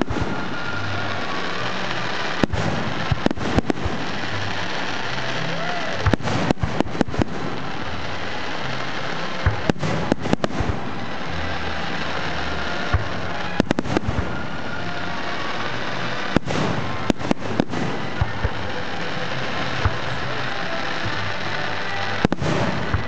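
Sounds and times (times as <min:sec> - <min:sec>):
dense background noise: 0:00.0 - 0:23.0
fireworks banging: 0:00.0 - 0:23.0.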